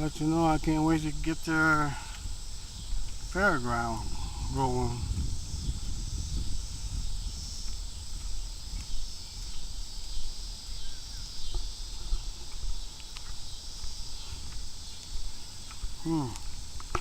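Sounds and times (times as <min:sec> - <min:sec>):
crickets chirring: 0:00.0 - 0:17.0
wind rumble on microphone: 0:00.0 - 0:17.0.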